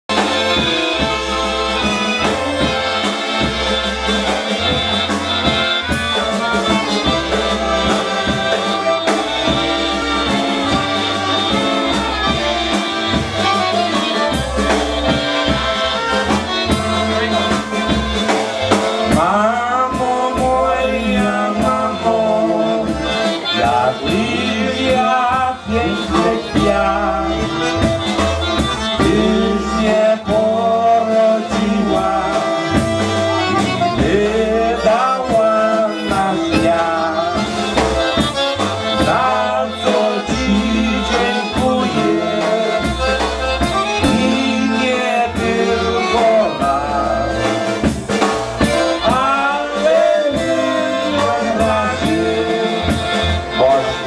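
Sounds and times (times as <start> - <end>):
polka band playing a waltz: 0.0 - 54.0
men singing: 0.1 - 54.0.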